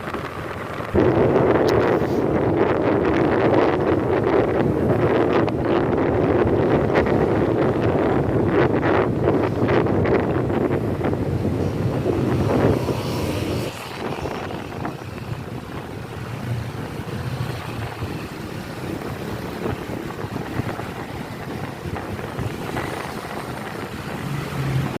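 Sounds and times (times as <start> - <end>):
low steady traffic hum: 0.0 - 25.0
wind buffeting microphone: 0.0 - 25.0.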